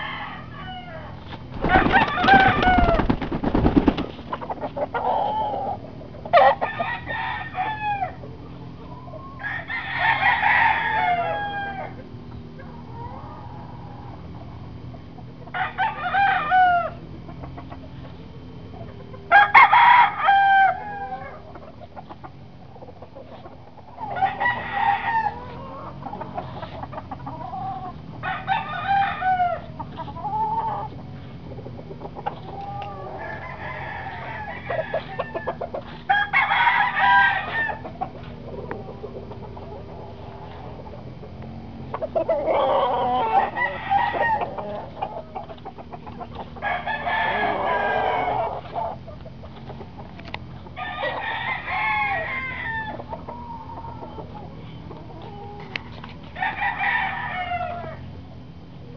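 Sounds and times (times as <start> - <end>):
roosters crowing: 0.0 - 58.9.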